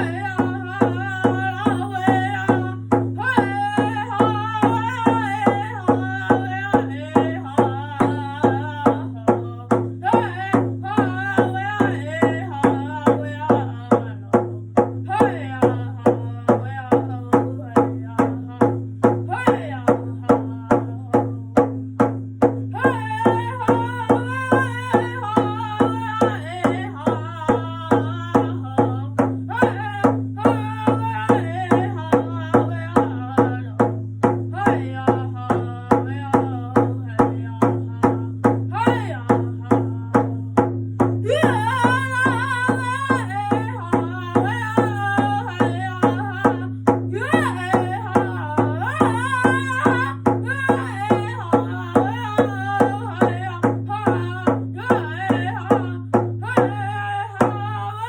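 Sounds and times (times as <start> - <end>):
person singing: 0.0 - 21.7, 22.7 - 33.9, 34.5 - 40.6, 41.2 - 58.0
steady drum beat: 0.0 - 58.0.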